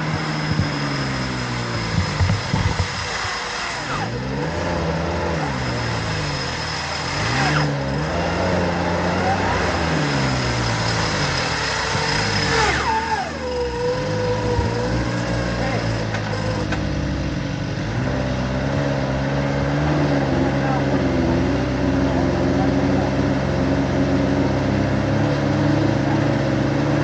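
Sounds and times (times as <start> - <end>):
engine revving: 0.0 - 27.0
high whine gliding down: 0.0 - 27.0.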